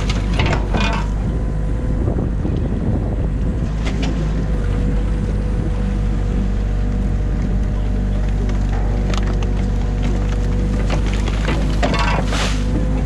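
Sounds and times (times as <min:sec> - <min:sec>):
diesel engine running: 0:00.0 - 0:13.0
hydraulic boom whine: 0:00.0 - 0:13.0.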